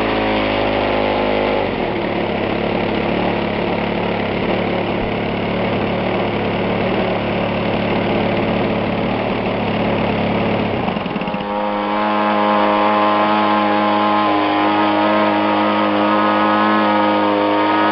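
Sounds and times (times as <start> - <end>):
model aeroplane engine running: 0.0 - 17.9.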